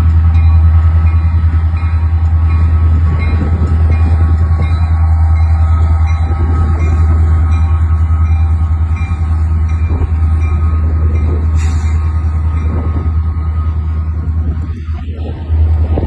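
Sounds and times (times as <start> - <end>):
train wheel clicks: 0.0 - 13.0
diesel locomotive engine rumble: 0.0 - 16.0.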